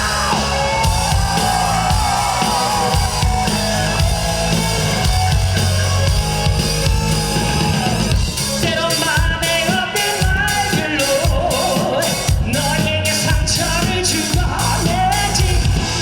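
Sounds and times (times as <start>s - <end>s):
drum kit beat: 0.0s - 16.0s
live rock band playing: 0.0s - 16.0s.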